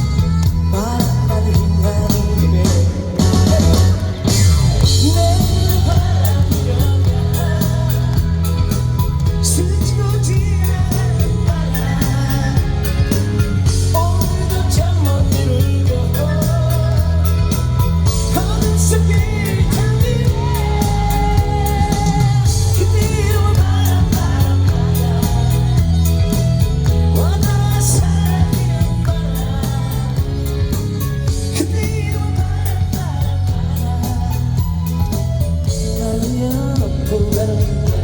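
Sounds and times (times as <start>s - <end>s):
live band pop music: 0.0s - 38.0s
person singing: 0.0s - 38.0s.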